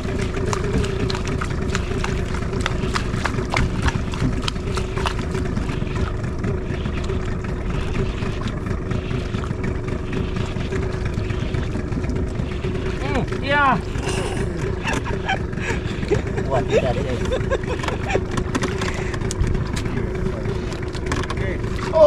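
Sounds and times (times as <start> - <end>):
boat engine idling: 0.0 - 22.0
wind and water rushing: 0.0 - 22.0.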